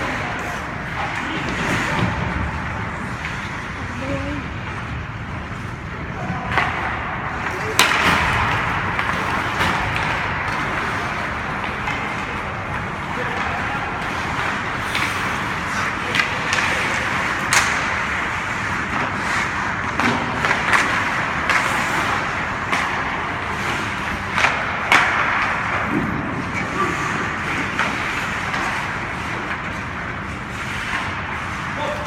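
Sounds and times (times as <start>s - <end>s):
distant voices: 0.0s - 32.0s
hockey sticks and puck clacking: 0.0s - 32.0s.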